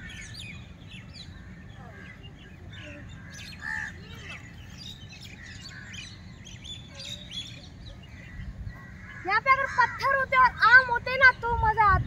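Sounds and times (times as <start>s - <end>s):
birds chirping and whistling: 0.0s - 12.0s
low steady rumble: 0.0s - 12.0s.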